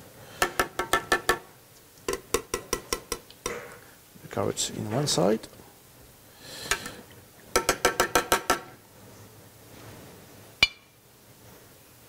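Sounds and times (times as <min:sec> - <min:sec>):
soft hiss: 0:00.0 - 0:07.6, 0:08.7 - 0:12.0.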